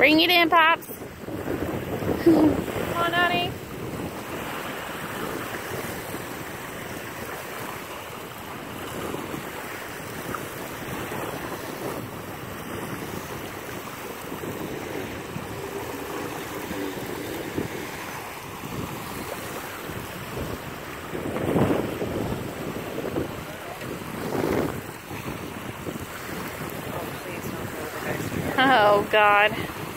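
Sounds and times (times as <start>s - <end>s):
small waves lapping on shore: 0.0s - 29.9s
wind buffeting microphone: 0.0s - 29.9s.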